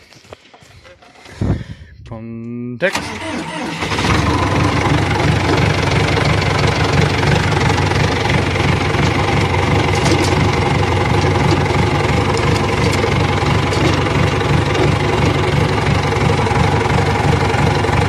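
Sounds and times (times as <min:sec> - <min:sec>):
tractor diesel engine idling: 0:02.9 - 0:18.0.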